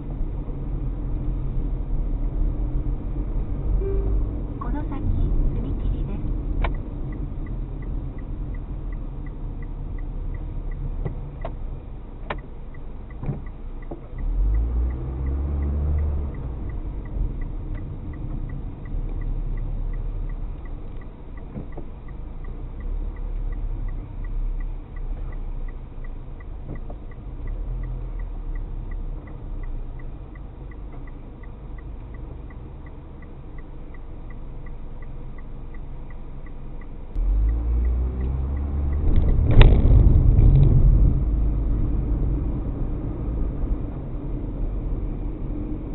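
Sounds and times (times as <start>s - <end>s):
car road and engine rumble: 0.0s - 45.9s
faint steady tick: 0.0s - 45.9s.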